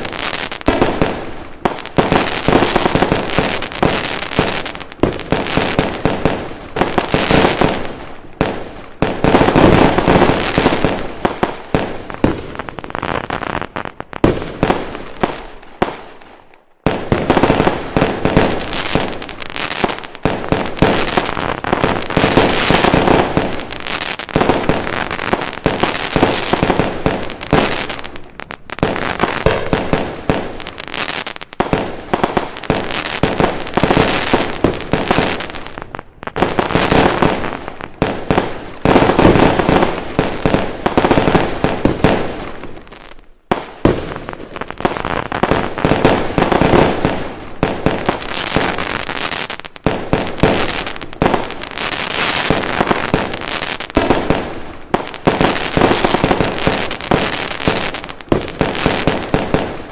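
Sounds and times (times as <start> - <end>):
fireworks banging and crackling: 0.0 - 59.9.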